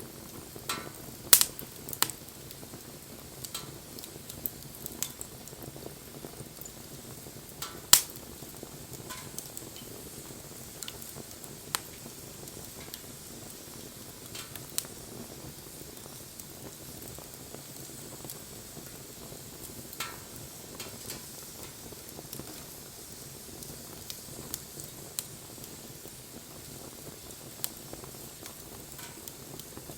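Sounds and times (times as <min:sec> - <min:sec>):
wood fire crackling and popping: 0:00.0 - 0:29.9.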